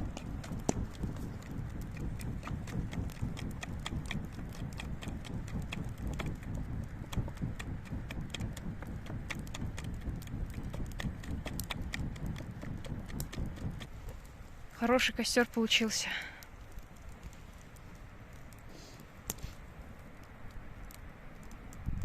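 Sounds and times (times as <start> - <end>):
burning twigs crackling: 0.0 - 22.0.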